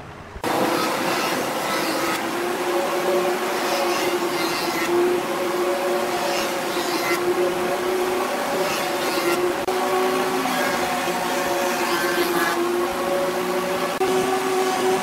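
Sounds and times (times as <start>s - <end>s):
jointer machine running: 0.4s - 15.0s
knives planing wood: 0.4s - 15.0s.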